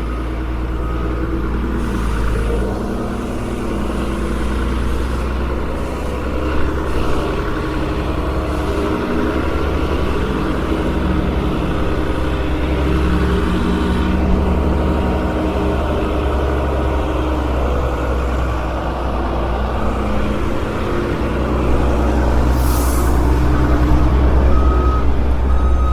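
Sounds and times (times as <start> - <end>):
truck engine rumbling: 0.0 - 25.9.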